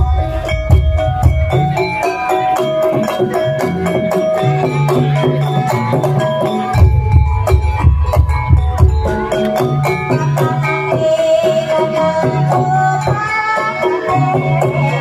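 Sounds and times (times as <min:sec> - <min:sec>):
drumming: 0:00.0 - 0:15.0
keyed instruments ringing melody: 0:00.0 - 0:15.0.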